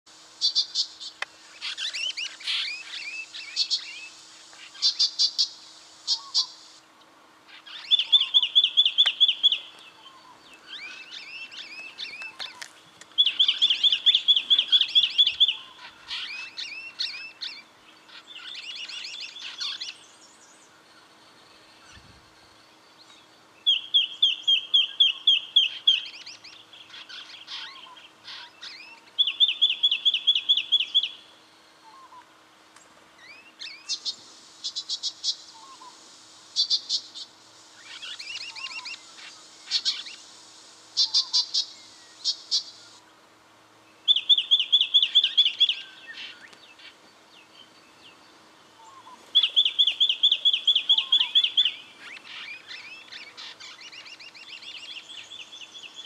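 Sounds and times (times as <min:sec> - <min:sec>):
bird chirps and twittering: 0:00.4 - 0:06.8, 0:07.5 - 0:32.2, 0:33.2 - 0:36.0, 0:36.6 - 0:40.3, 0:40.9 - 0:43.0, 0:43.9 - 0:56.0.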